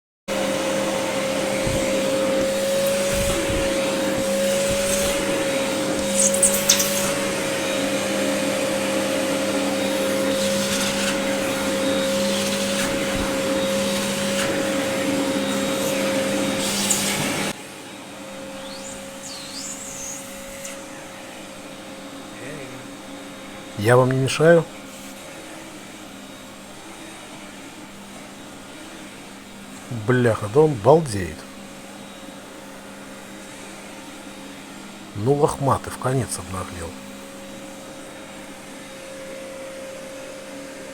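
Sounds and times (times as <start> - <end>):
vacuum cleaner motor hum: 0.3 - 23.8, 24.6 - 30.5, 31.4 - 35.1, 36.4 - 40.9.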